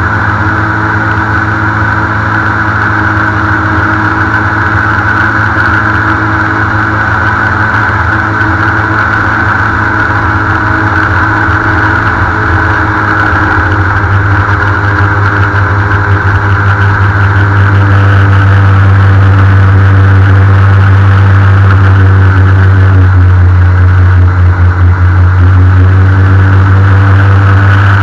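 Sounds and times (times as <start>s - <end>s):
airboat engine and propeller: 0.0s - 28.0s.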